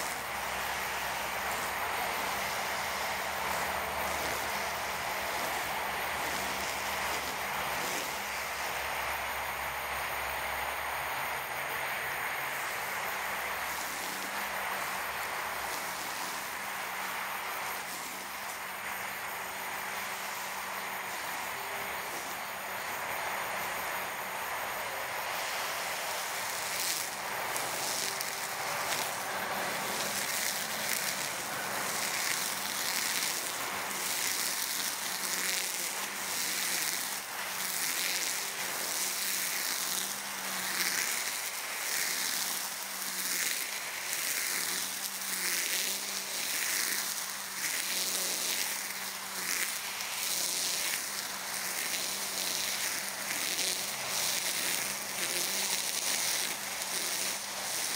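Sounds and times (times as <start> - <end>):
brush cutter motor whining: 0.0 - 57.9.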